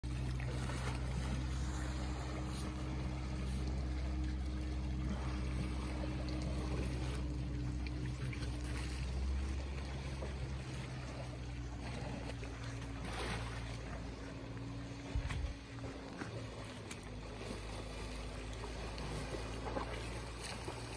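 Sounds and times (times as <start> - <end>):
steady low hum: 0.0 - 20.9
water noise: 0.0 - 20.9
wind: 0.0 - 20.9.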